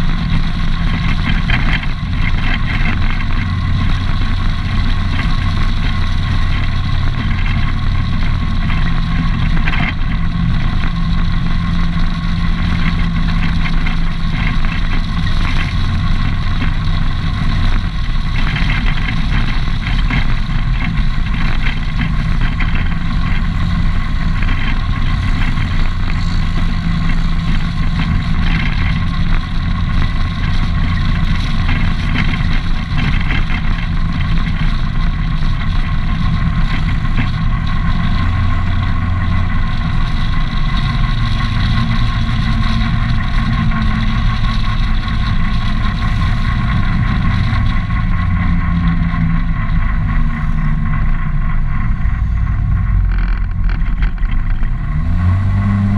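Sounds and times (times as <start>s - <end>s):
atv engine running: 0.0s - 55.9s
tyres on gravel: 0.0s - 55.9s.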